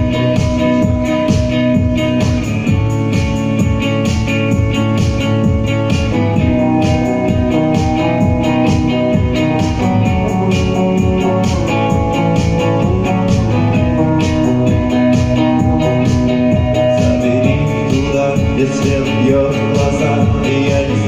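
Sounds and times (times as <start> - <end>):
band playing instrumental: 0.0 - 21.0
guitar notes: 0.0 - 21.0
steady low beat: 0.0 - 21.0.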